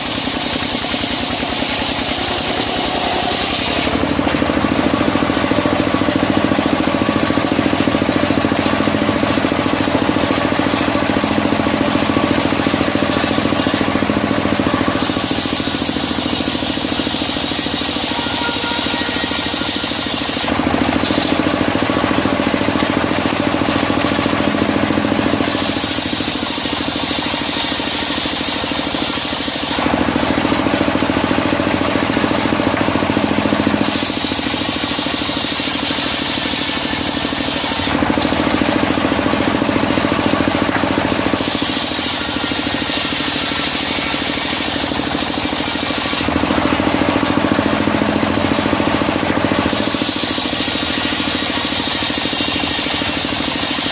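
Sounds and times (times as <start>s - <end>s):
circular saw cutting wood: 0.0s - 53.9s.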